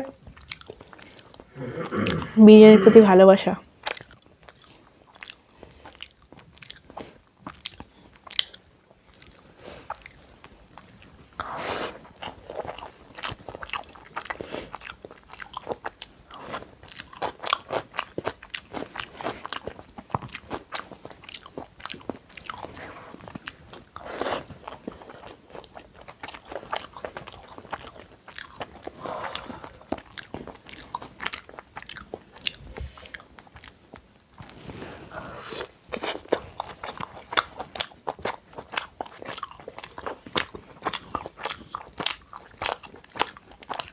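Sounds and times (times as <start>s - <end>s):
person chewing food: 0.0s - 2.4s, 3.7s - 43.9s.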